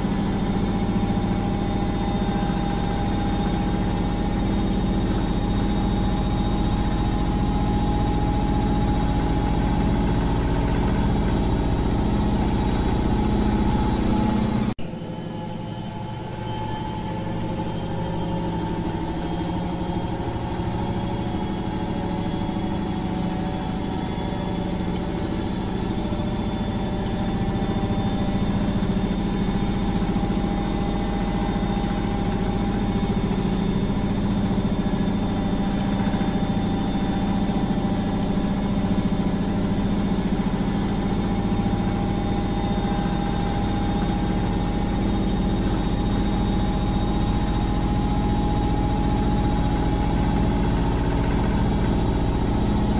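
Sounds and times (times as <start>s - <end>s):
washing machine running: 0.0s - 14.9s, 15.8s - 52.9s.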